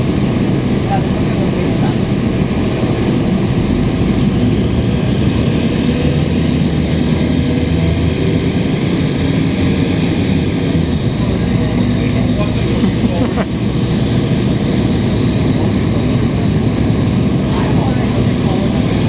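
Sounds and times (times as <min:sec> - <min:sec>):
bus diesel engine running: 0:03.5 - 0:19.0.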